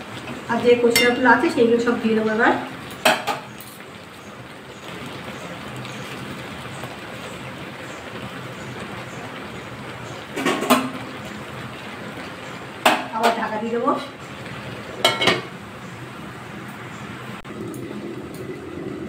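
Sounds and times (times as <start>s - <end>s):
water boiling hiss: 0.0s - 19.0s.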